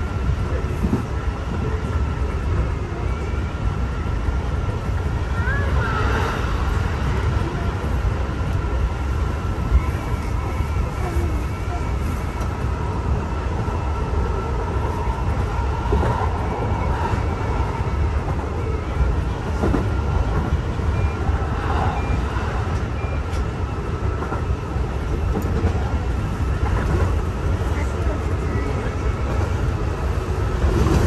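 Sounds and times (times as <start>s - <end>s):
electric train rumbling on track: 0.0s - 31.0s.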